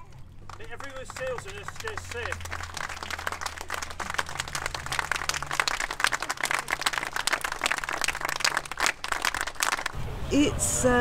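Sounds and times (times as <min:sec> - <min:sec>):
crowd applauding: 0:00.4 - 0:10.0.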